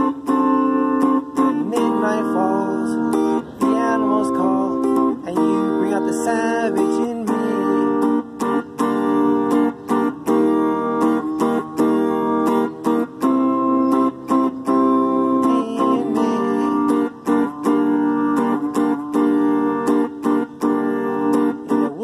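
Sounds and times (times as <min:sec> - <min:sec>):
electric guitar with bent notes: 0:00.0 - 0:22.0.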